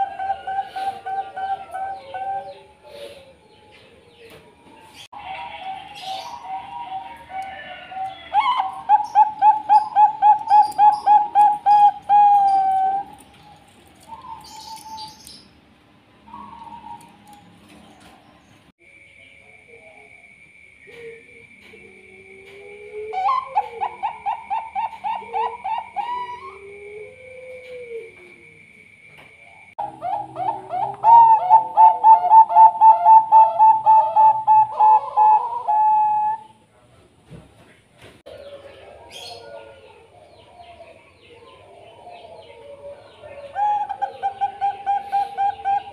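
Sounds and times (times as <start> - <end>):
dove cooing: 0.0 - 15.2, 20.8 - 28.5, 29.5 - 36.6, 38.3 - 45.9.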